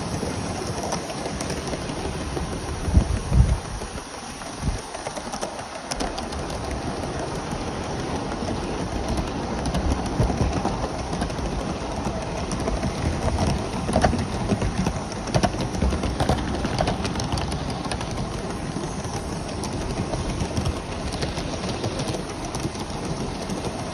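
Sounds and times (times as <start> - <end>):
model train wheels rattling: 0.0 - 23.9.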